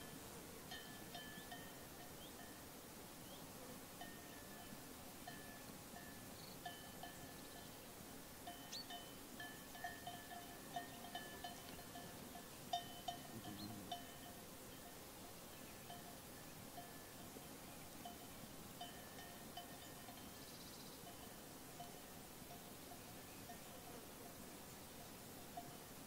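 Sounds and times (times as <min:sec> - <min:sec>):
sheep bells tinkling: 0:00.0 - 0:02.7, 0:04.0 - 0:26.0.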